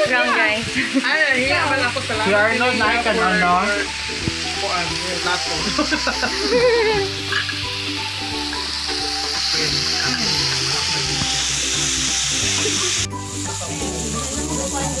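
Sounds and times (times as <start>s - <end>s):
meat sizzling on a grill plate: 0.0s - 15.0s.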